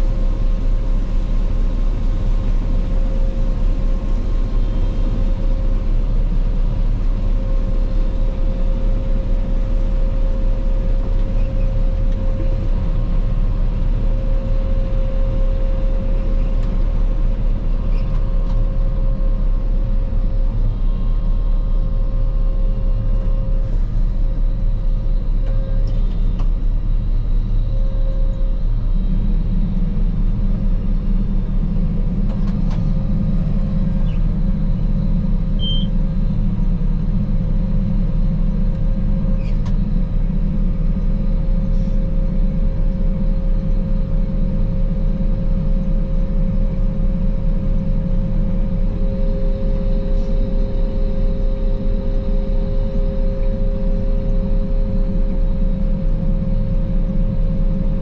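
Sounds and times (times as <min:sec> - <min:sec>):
combine harvester droning: 0:00.0 - 0:58.0
steady hum: 0:00.0 - 0:58.0.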